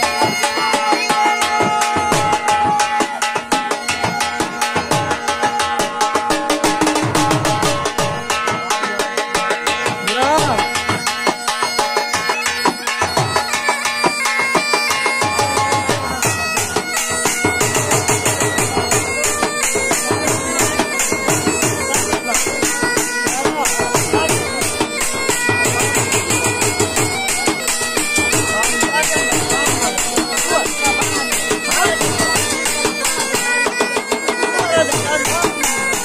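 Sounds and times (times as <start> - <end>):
bagpipe playing folk melody: 0.0 - 36.0
dhol drum beating: 0.0 - 36.0.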